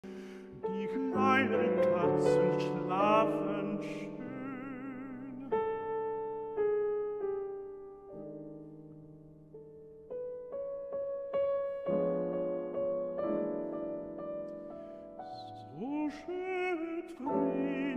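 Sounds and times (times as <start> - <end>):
slow gentle piano: 0.0 - 17.9.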